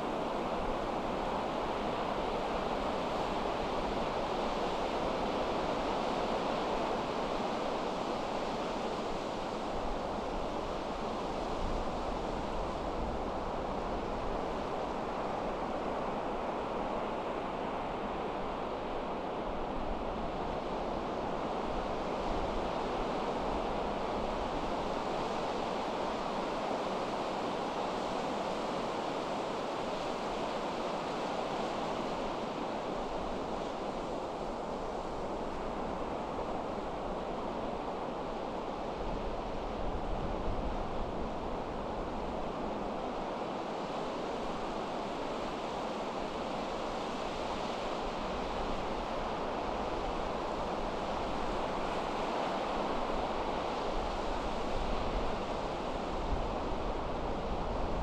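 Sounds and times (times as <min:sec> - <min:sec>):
surf washing on sandy beach: 0:00.0 - 0:58.0.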